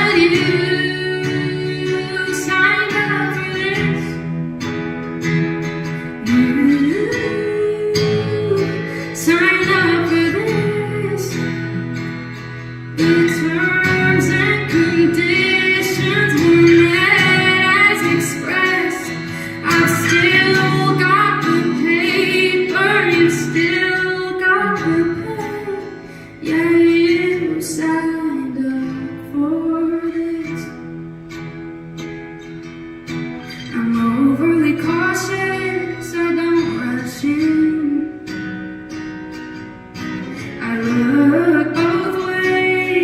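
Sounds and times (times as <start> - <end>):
woman singing: 0.0 - 4.7, 5.6 - 31.0, 33.4 - 43.0.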